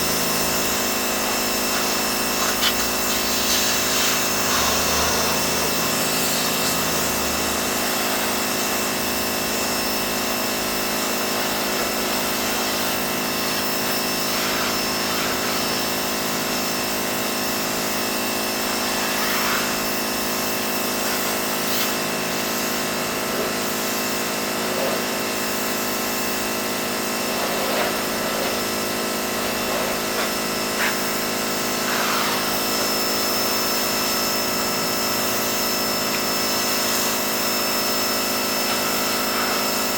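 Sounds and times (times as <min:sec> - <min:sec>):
pressure washer running: 0:00.0 - 0:39.9.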